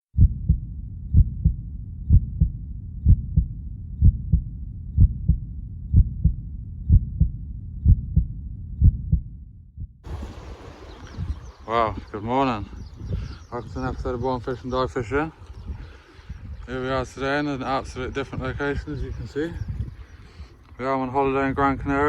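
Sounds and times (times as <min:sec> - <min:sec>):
heartbeat thumps: 0:00.1 - 0:12.1, 0:12.7 - 0:17.2, 0:17.8 - 0:20.5.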